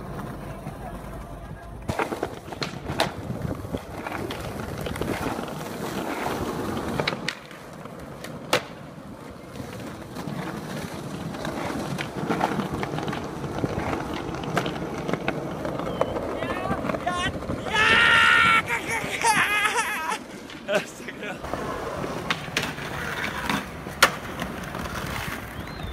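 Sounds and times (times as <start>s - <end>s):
skateboard clacks: 0.0s - 25.9s
skateboard wheels rolling on pavement: 0.0s - 25.9s.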